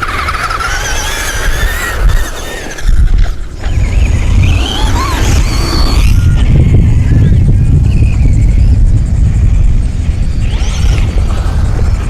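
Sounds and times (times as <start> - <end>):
rc car motors whining: 0.0 - 12.0
wind rumble on microphone: 0.0 - 12.0.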